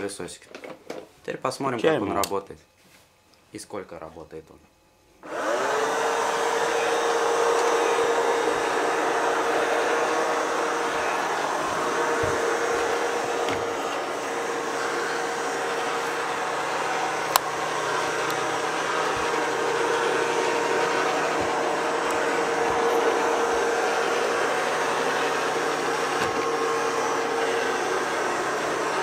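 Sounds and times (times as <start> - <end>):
robot vacuum whirring: 5.2 - 29.0.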